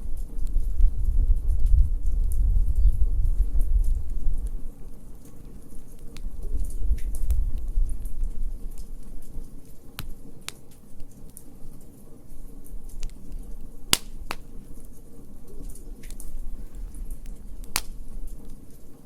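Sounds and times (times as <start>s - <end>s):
low rumble of flames: 0.0s - 19.0s
wood fire popping: 0.0s - 19.0s.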